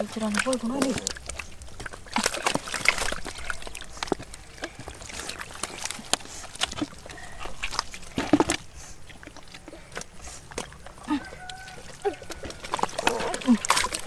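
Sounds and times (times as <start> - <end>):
muddy water sloshing: 0.0 - 14.0
wet mud squelching: 0.0 - 14.0.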